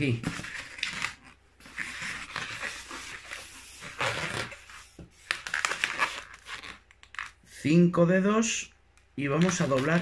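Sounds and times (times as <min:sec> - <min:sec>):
balloon squeaking and rubbing: 0:00.0 - 0:07.7, 0:09.4 - 0:10.0.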